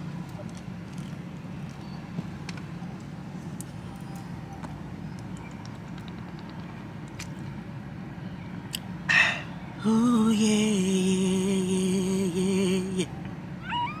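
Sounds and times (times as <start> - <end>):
car engine idling hum: 0.0 - 14.0.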